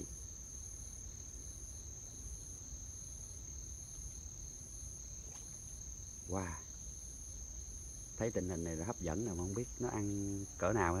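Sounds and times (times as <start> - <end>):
insect continuous high trill: 0.0 - 11.0.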